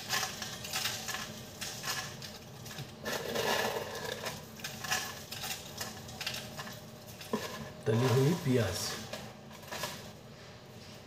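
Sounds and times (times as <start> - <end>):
fried onions crackling and rustling: 0.0 - 11.0.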